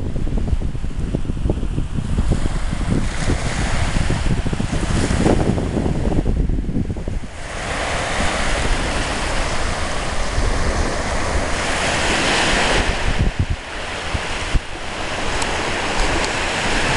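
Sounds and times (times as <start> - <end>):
waves washing up a beach: 0.0 - 16.9
wind buffeting microphone: 0.0 - 16.9.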